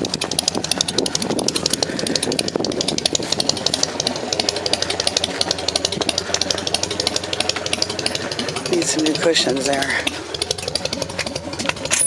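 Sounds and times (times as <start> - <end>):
engine running with rapid ticking: 0.0 - 12.0.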